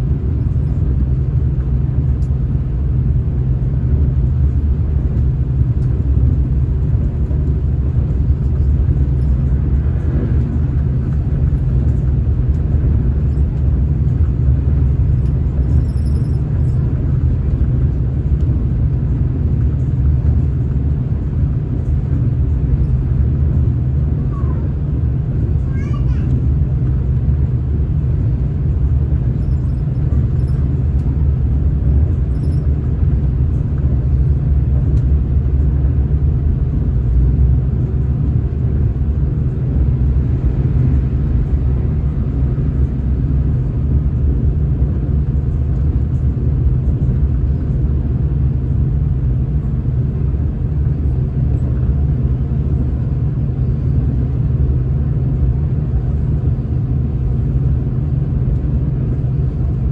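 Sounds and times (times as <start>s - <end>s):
train rumble from inside carriage: 0.0s - 59.9s.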